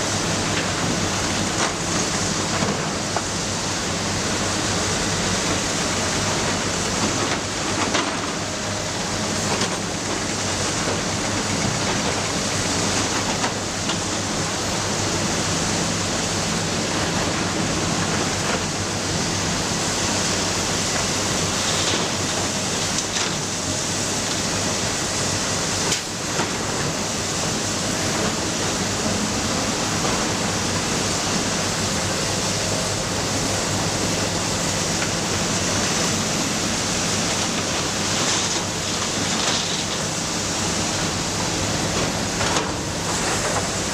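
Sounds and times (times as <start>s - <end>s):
excavator diesel engine hum: 0.0s - 43.9s.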